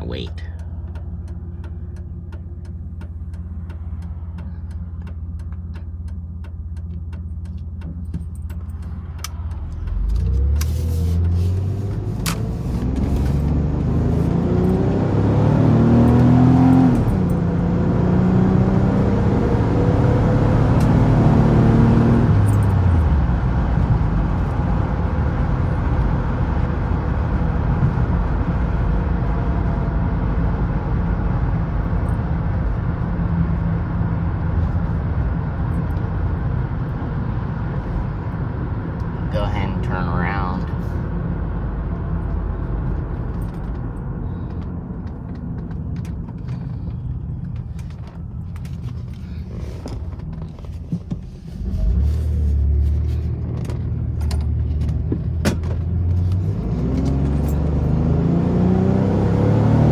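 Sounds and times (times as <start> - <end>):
car engine from inside cabin: 0.0 - 59.9
road noise: 0.0 - 59.9.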